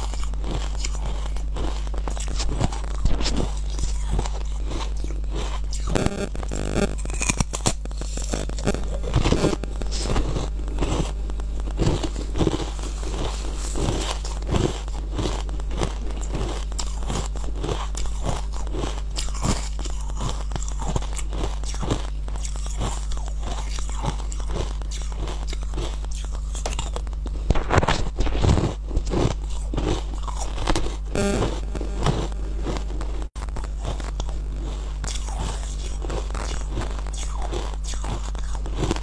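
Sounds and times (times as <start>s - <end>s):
chewing crunchy ice: 0.0s - 39.0s.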